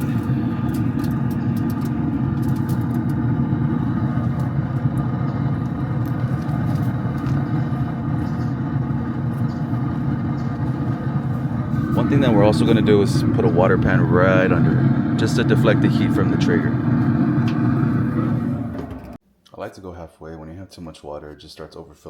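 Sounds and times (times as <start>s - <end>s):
grill fan droning: 0.0s - 19.2s.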